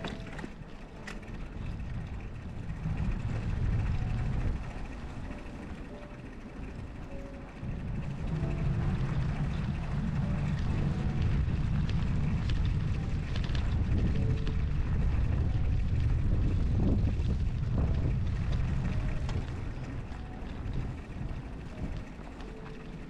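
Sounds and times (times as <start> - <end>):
faint clicks: 0.0 - 23.0
wind buffeting microphone: 0.0 - 23.0.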